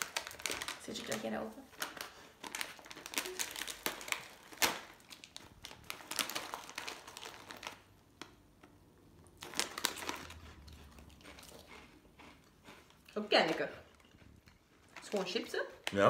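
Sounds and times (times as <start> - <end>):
plastic snack bag crinkling: 0.0 - 13.0.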